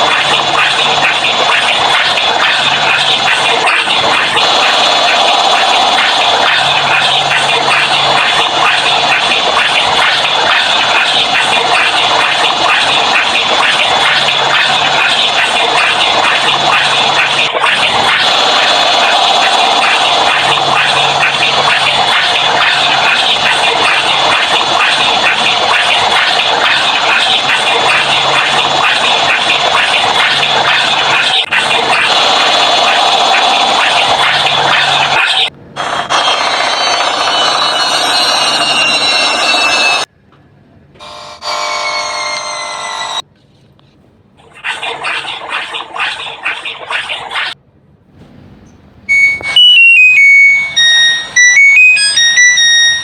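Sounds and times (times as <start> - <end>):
sound effects: 0.0 - 40.1, 49.1 - 53.0
washing machine spinning: 0.0 - 40.2, 44.9 - 53.0.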